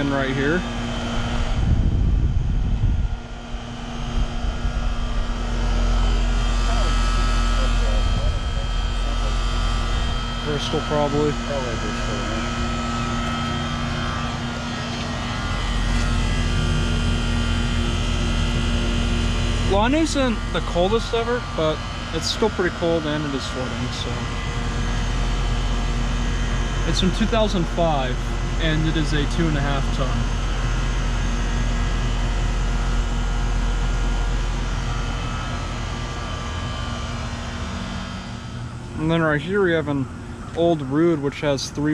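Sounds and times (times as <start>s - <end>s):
air conditioner unit running: 0.0s - 41.9s
compressor hum: 0.0s - 41.9s
low drone: 0.0s - 41.9s.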